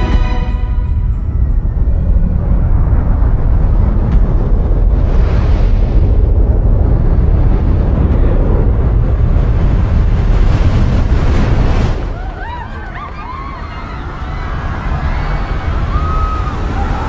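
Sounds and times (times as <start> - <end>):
deep rumble of rushing water: 0.0 - 17.0.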